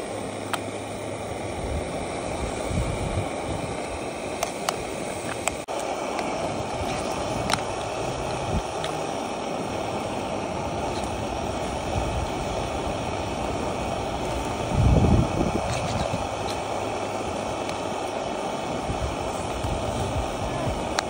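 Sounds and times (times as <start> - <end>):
camping stove hissing: 0.0 - 21.0.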